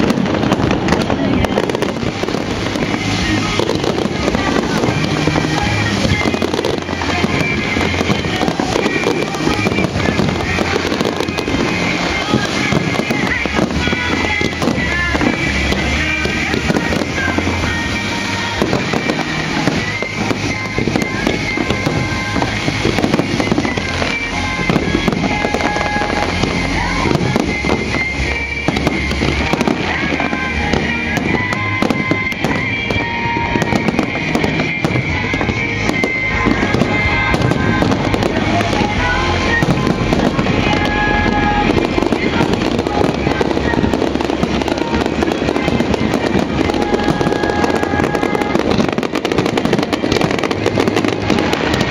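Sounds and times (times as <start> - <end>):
fireworks bangs and crackles: 0.0 - 51.9
show music: 0.0 - 51.9.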